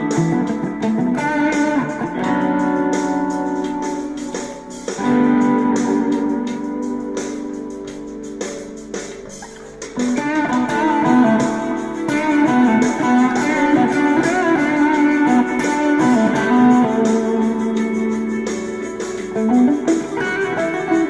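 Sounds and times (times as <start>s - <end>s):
overdriven electric guitar lead: 0.0s - 21.0s.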